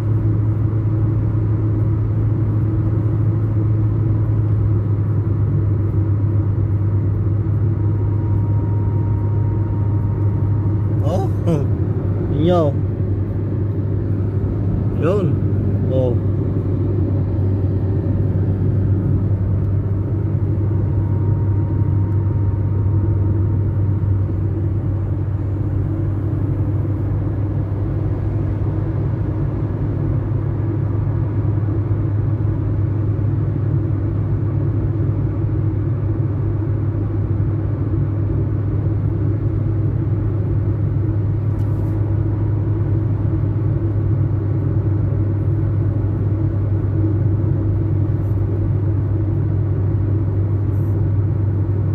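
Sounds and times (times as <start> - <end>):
vehicle engine rumbling: 0.0 - 51.9.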